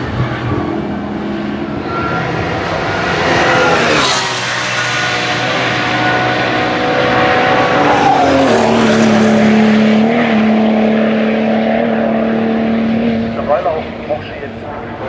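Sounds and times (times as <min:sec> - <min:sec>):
racing car engines running: 0:00.0 - 0:15.0.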